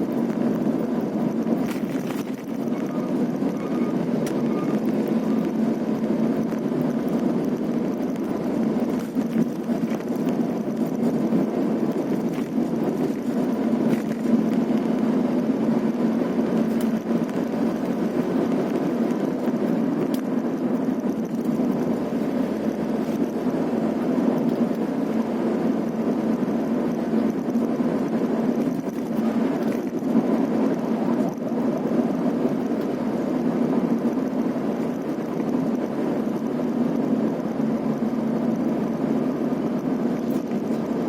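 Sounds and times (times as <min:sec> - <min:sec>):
vehicle engine and road noise: 0:00.0 - 0:41.0.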